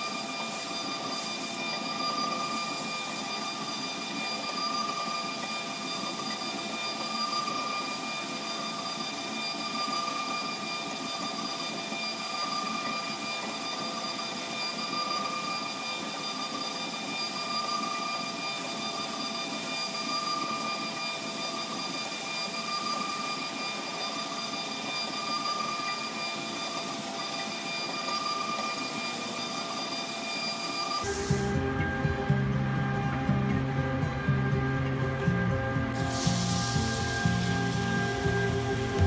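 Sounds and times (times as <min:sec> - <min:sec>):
wood lathe whine: 0:00.0 - 0:39.0.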